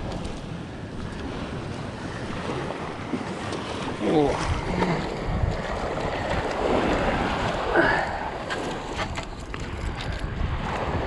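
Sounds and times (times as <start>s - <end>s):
small waves lapping: 0.0s - 11.0s
wind on microphone: 0.0s - 11.0s.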